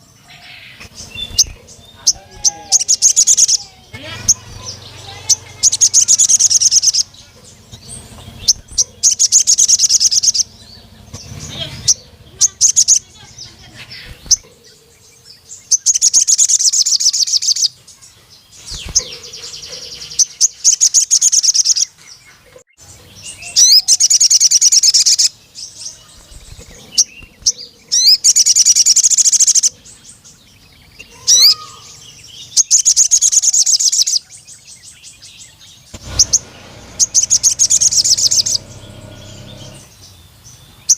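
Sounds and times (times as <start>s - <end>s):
bird chirping trills: 0.0s - 40.9s.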